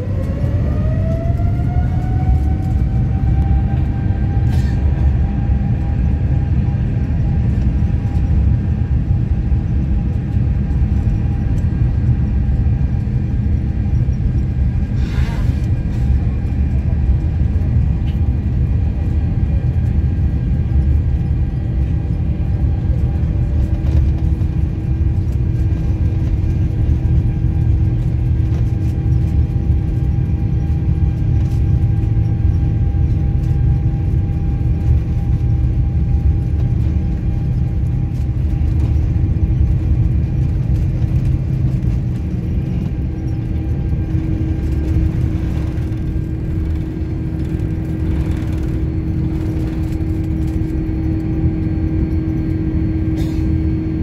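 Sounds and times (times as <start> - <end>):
heavy low rumble: 0.0 - 54.0
jet engine whine: 0.0 - 54.0.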